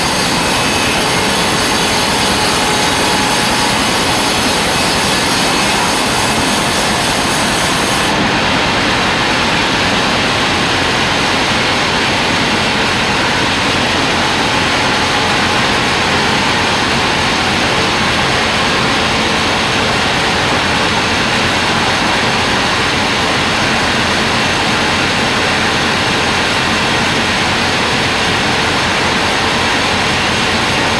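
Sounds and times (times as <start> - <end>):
band saw cutting log: 0.0 - 30.9.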